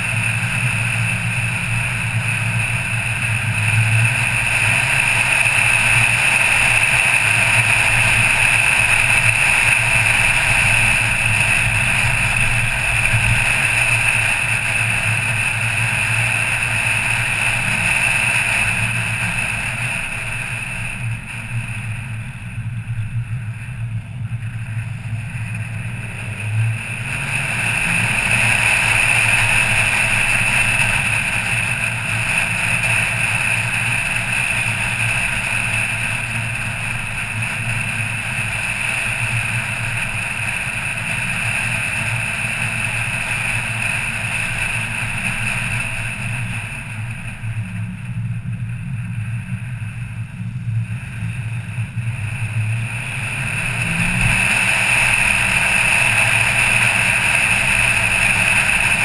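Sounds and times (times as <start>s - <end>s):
car engine hum: 0.0s - 59.0s
tyre and road noise: 0.0s - 59.0s.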